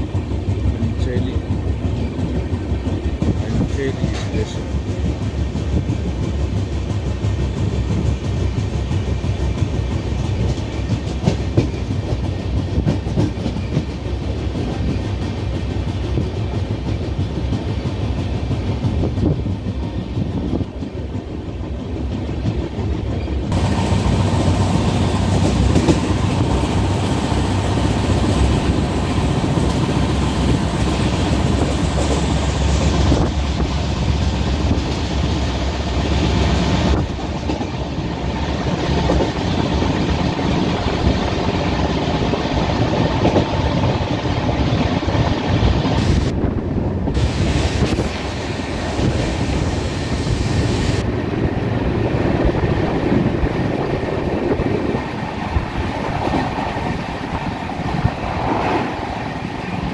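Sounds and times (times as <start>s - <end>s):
track clatter: 0.0s - 59.9s
train wheels rumbling on rails: 0.0s - 59.9s.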